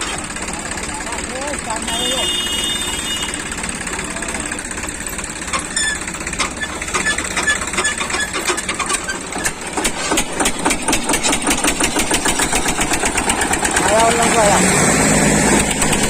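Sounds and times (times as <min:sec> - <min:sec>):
tractor diesel engine knocking: 0:00.0 - 0:16.0.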